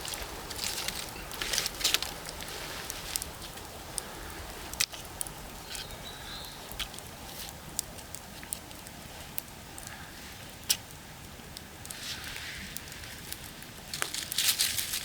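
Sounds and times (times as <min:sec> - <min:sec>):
dry wood crackling: 0:00.0 - 0:15.0.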